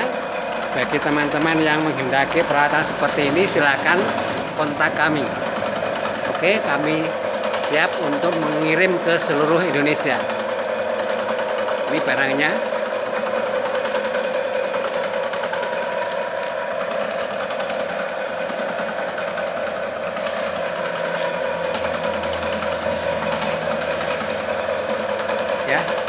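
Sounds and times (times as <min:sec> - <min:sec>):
fast even rattle: 0:00.0 - 0:26.0
ice cream churn motor humming: 0:00.0 - 0:26.0.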